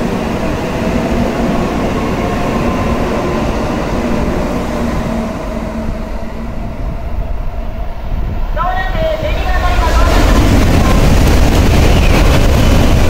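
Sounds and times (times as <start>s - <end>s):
train rumbling slowly: 0.0s - 13.0s.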